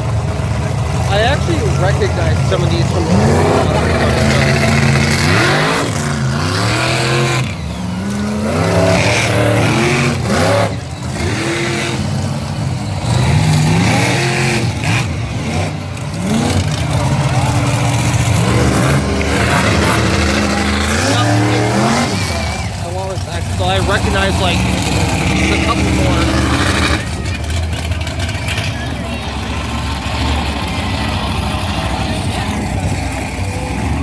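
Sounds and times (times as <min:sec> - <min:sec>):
monster truck engines revving: 0:00.0 - 0:34.0.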